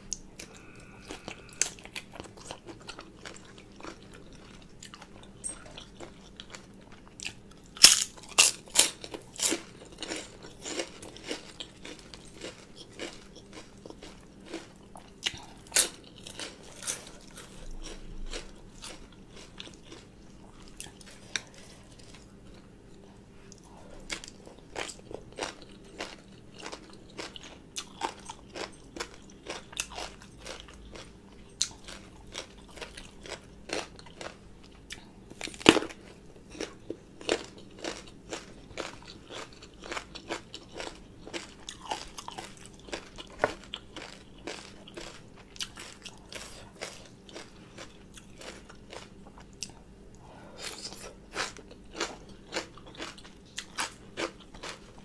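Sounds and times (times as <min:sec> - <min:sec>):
crisp crunchy chewing: 0:00.1 - 0:49.8, 0:50.6 - 0:55.0.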